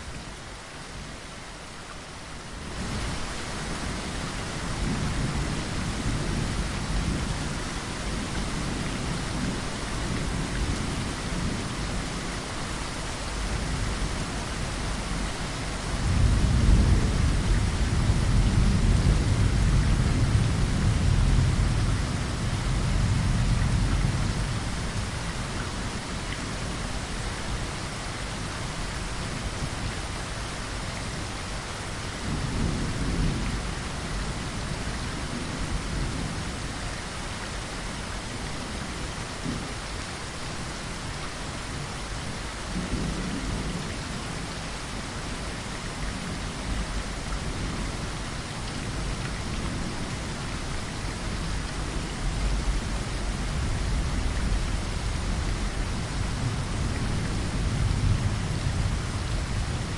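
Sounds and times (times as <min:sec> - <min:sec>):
rain pattering on window: 0:01.1 - 0:59.9.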